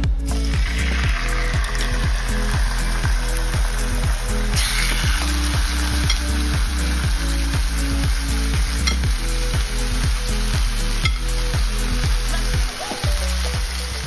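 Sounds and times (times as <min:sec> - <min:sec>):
background music with kick drum: 0:00.0 - 0:14.0
steaks sizzling in a frying pan: 0:00.3 - 0:14.0.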